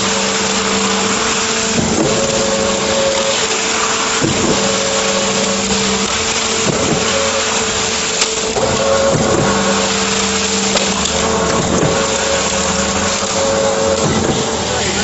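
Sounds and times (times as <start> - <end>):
concrete pouring into hopper: 0.0 - 15.0
concrete pump humming: 0.0 - 15.0.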